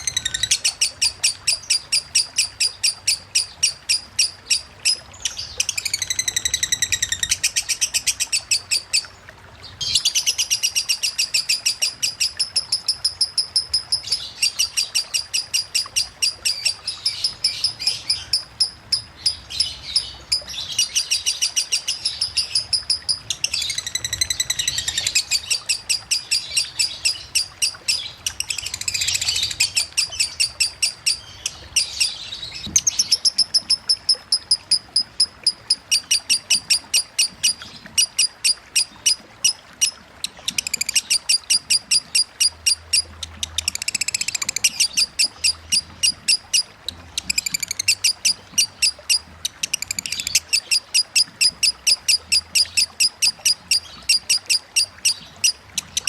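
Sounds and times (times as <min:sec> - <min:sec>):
lovebird fast ticking chirps: 0:00.0 - 0:09.1, 0:09.8 - 0:56.0
faint running water: 0:00.0 - 0:56.0.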